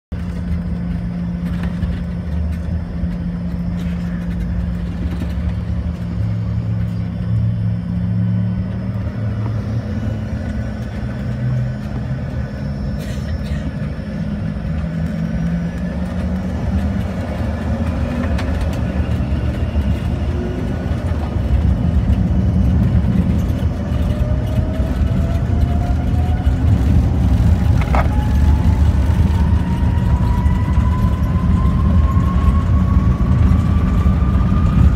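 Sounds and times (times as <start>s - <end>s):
cabin rumble: 0.1s - 34.9s
jet engines humming: 0.1s - 34.9s.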